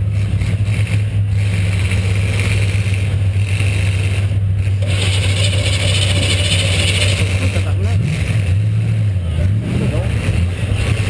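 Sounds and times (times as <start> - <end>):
car engine running loud: 0.0 - 11.0.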